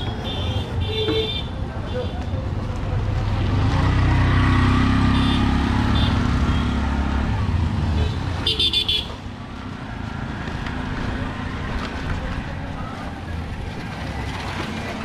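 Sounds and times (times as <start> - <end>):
auto-rickshaw engine passing: 1.5 - 15.0.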